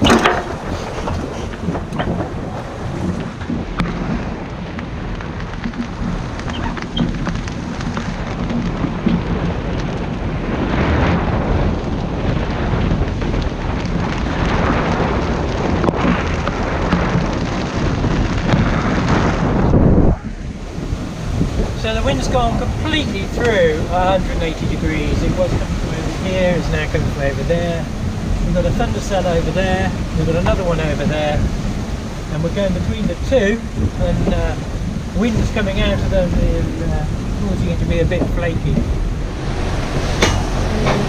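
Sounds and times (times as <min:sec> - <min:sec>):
rush of the sea: 0:00.0 - 0:41.0
wind buffeting microphone: 0:00.0 - 0:41.0.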